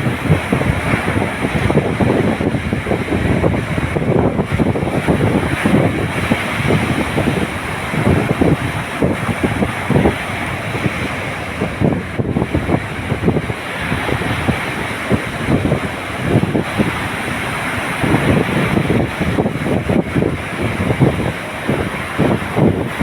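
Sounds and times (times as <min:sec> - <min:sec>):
sea waves washing on shore: 0:00.0 - 0:23.0
wind buffeting microphone: 0:00.0 - 0:23.0.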